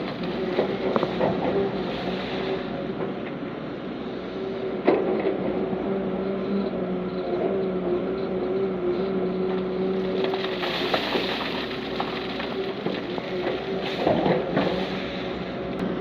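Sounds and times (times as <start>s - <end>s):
diesel machinery droning: 0.0s - 16.0s.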